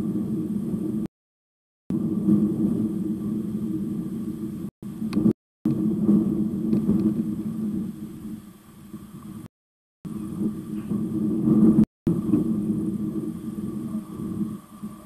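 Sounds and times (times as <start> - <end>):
low rumble: 0.0 - 1.1, 1.9 - 9.5, 10.1 - 15.0
steady low hum: 1.9 - 9.5, 10.1 - 15.0.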